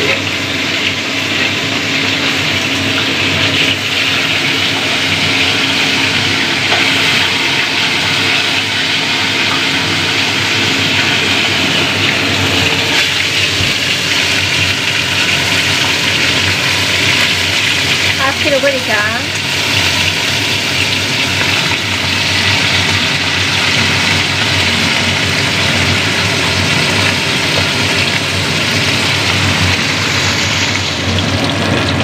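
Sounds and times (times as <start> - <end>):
fish sizzling in oil: 0.0 - 32.0.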